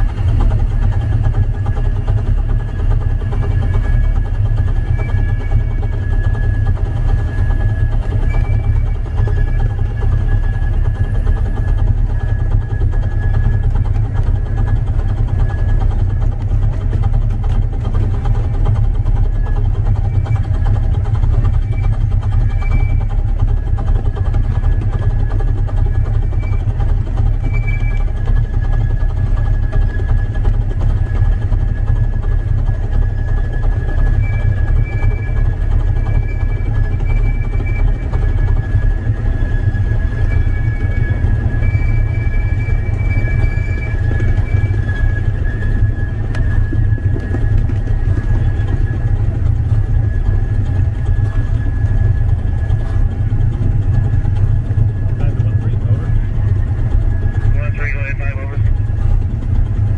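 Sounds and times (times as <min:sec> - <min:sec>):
miniature train running: 0:00.0 - 0:59.9
wind rumble on microphone: 0:00.0 - 0:59.9.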